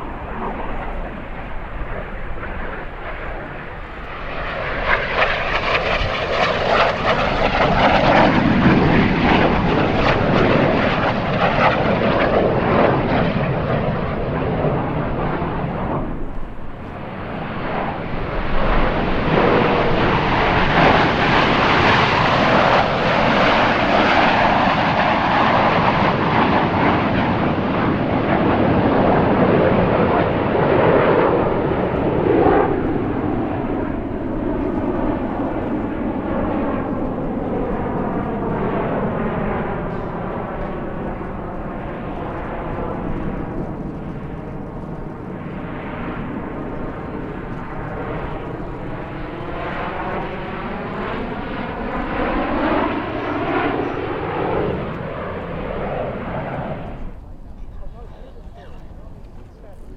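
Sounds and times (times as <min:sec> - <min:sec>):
jets flying past: 0:00.0 - 0:59.9.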